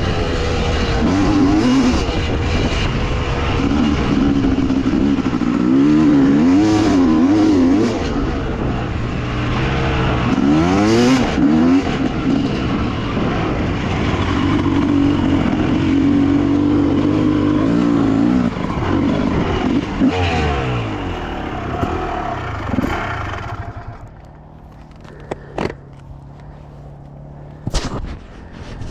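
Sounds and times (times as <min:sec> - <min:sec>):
dirt bike engines revving: 0:00.0 - 0:28.9
low steady engine hum: 0:00.0 - 0:28.9.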